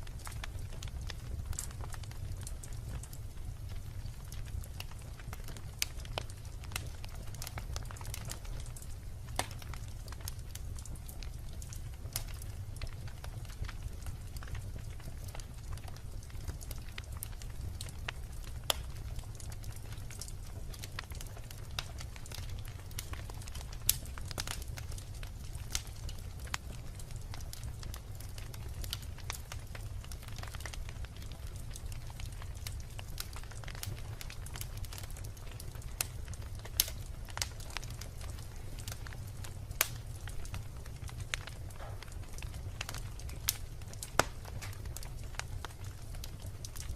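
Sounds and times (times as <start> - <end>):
low rumble of flames: 0.0 - 46.9
wood fire crackling and popping: 0.0 - 46.9.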